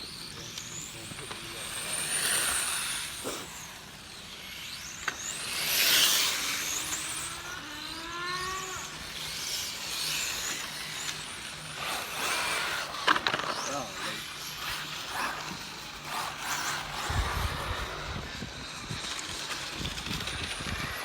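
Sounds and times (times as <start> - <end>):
remote control car motors whining: 0.0 - 21.0.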